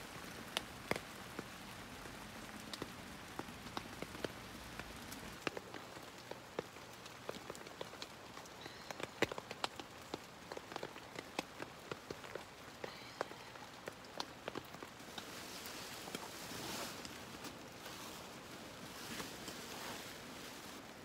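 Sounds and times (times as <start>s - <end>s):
rain hissing on tent fabric: 0.0s - 21.0s
raindrops tapping on nylon: 0.0s - 21.0s.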